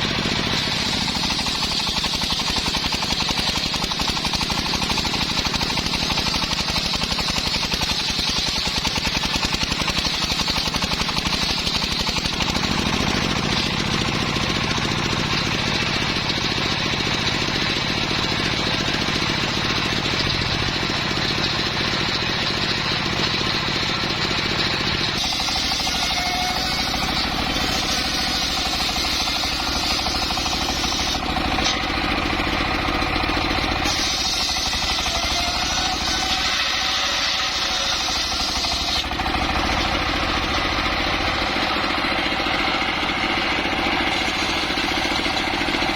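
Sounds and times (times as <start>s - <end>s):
engine-driven wood saw pulsing: 0.0s - 45.9s.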